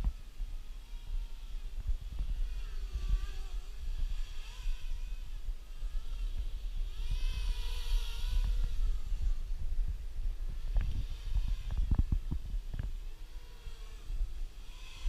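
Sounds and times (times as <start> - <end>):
quadcopter motors whining: 0.0 - 15.0
wind rumble on microphone: 0.0 - 15.0.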